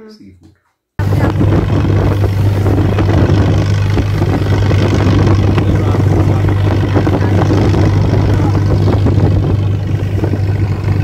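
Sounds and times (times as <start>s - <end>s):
motorboat engine humming: 1.0s - 11.0s
wind buffeting microphone: 1.0s - 11.0s.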